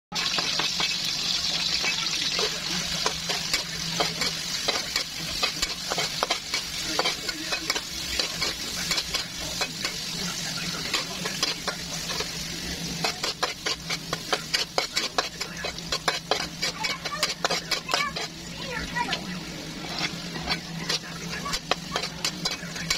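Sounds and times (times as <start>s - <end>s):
food sizzling in hot oil: 0.1s - 22.9s
metal spatula scraping and tapping pan: 0.2s - 22.9s.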